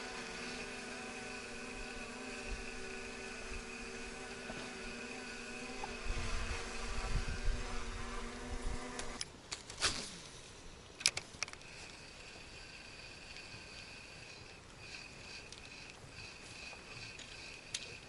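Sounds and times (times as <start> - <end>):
boat motor humming: 0.0 - 9.2, 11.4 - 18.0.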